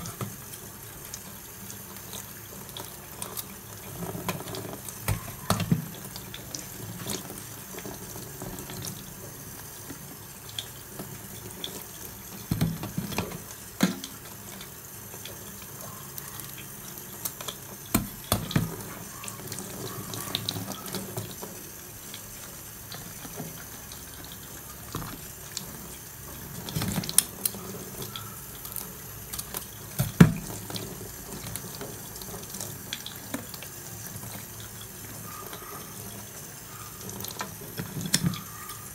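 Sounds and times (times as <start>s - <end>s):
tap water running into plastic tub: 0.0s - 38.9s.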